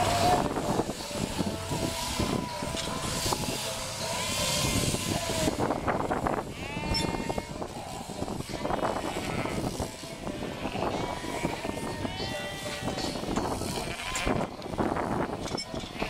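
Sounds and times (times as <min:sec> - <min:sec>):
sheep bleating: 0:00.0 - 0:14.5
electric shears humming: 0:00.0 - 0:14.6.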